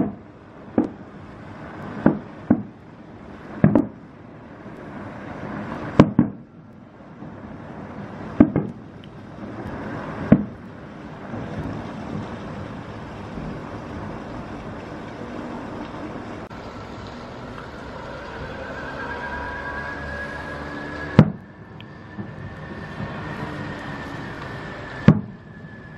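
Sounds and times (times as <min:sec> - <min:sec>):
rumble of fireworks bursts: 0:00.0 - 0:19.1, 0:20.0 - 0:25.9
fireworks bursting: 0:00.0 - 0:25.9.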